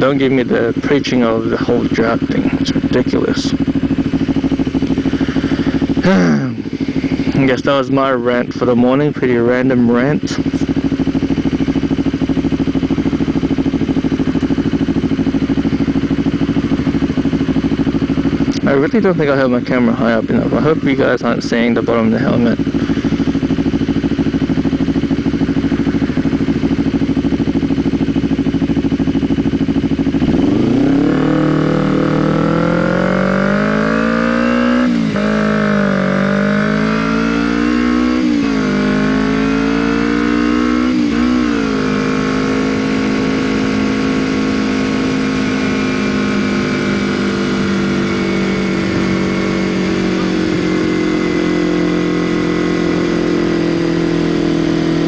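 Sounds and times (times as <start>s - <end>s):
motorcycle engine revving and shifting: 0.0s - 55.0s.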